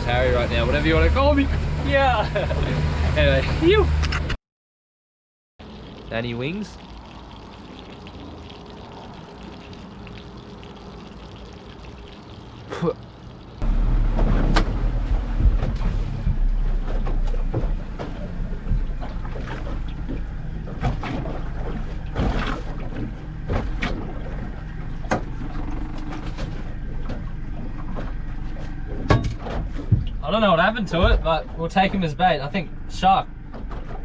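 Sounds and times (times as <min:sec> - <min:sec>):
boat engine rumbling: 0:00.0 - 0:04.4, 0:05.6 - 0:34.0.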